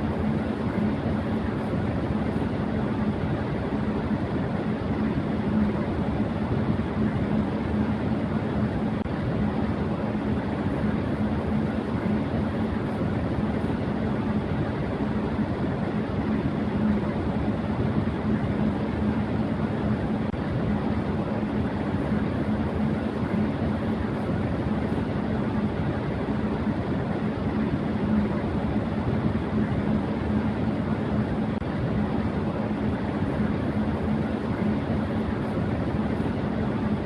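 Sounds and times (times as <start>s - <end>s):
electric fan whooshing: 0.0s - 37.0s.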